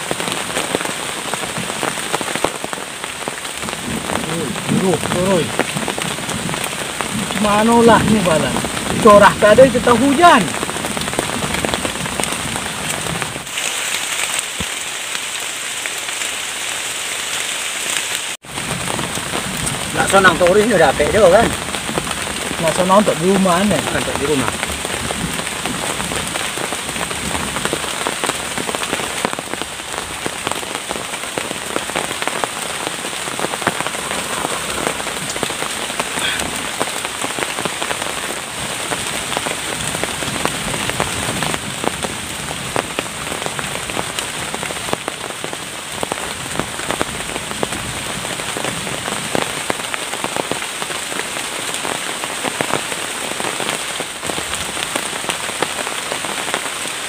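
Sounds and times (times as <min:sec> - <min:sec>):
rain dripping on leaves: 0:00.0 - 0:57.0.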